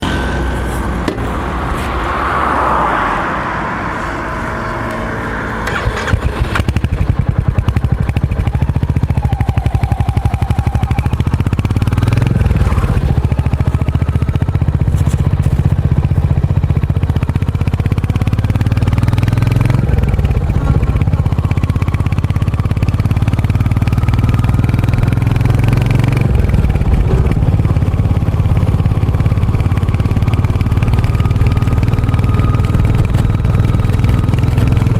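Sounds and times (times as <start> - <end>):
motorcycle engine and exhaust: 0.0 - 34.9.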